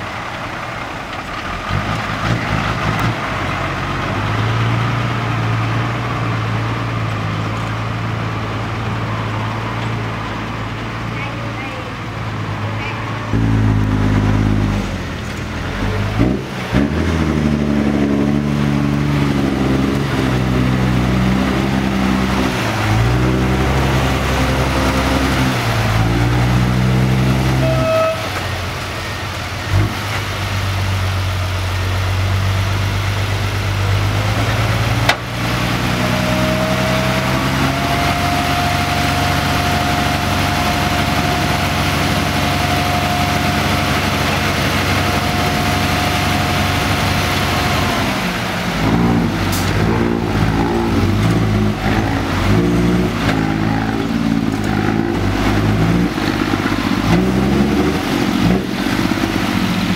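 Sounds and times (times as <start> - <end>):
dump truck engine running: 0.0 - 59.9.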